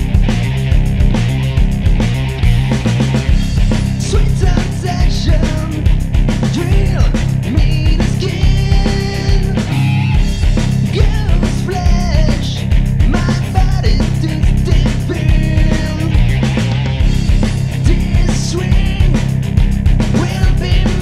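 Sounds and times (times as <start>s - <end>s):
drums keeping steady beat: 0.0s - 21.0s
heavy bass and guitar: 0.0s - 21.0s
rock music: 0.0s - 21.0s.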